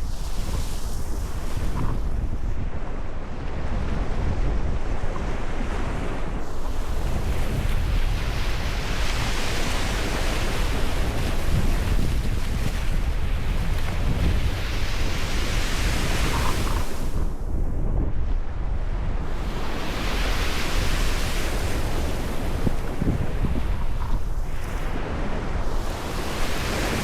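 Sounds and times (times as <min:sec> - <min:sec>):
ocean waves washing in: 0:00.0 - 0:27.0.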